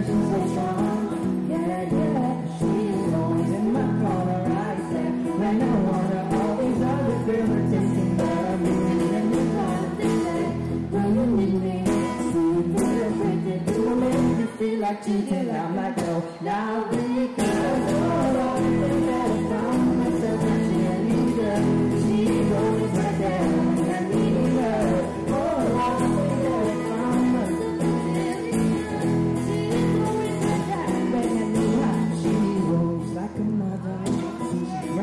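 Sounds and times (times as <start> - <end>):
strummed acoustic guitar: 0.0 - 35.0
woman singing into microphone: 0.0 - 35.0.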